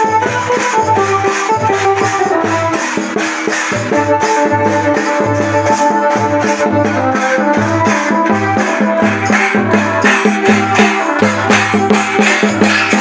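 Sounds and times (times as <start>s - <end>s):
barrel drums beating: 0.0s - 13.0s
stick-beaten drum: 0.0s - 13.0s.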